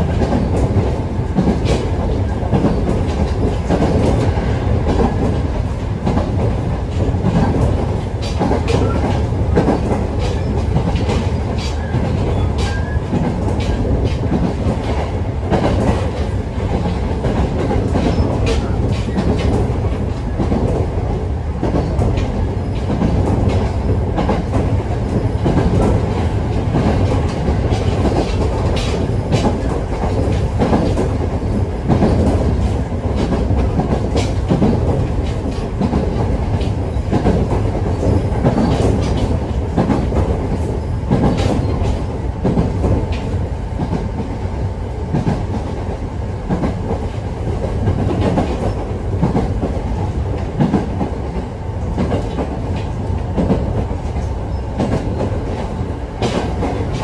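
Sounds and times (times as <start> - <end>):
clickety-clack of rail joints: 0.0 - 57.0
train wheels rumbling on rails: 0.0 - 57.0.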